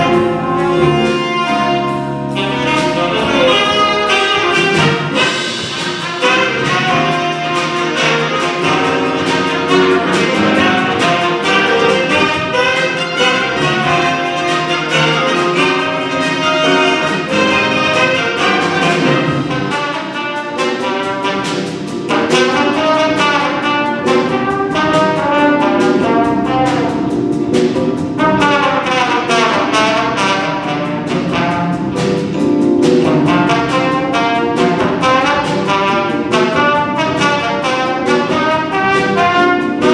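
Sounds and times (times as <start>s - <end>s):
jazz band brass playing: 0.0s - 39.9s.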